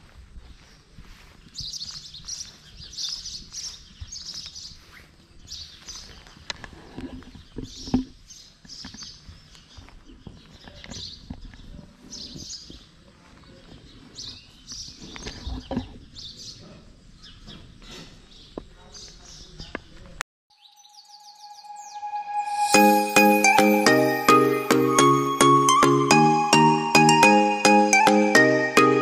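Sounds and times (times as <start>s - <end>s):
small birds chirping: 0.3s - 24.2s.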